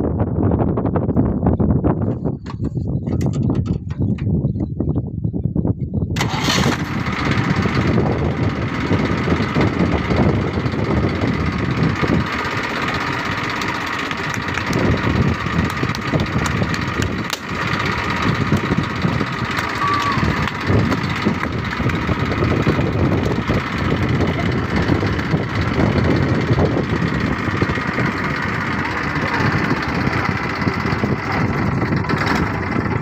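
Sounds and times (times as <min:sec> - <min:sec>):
tractor diesel engine running: 0:00.1 - 0:05.0, 0:06.1 - 0:33.0.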